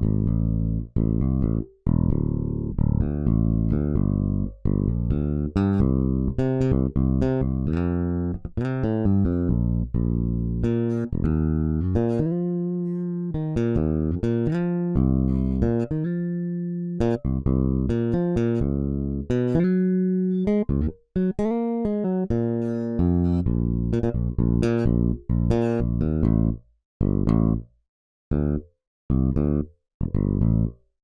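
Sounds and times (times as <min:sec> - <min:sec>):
electric bass guitar plucking: 0:00.0 - 0:27.7, 0:28.3 - 0:30.8.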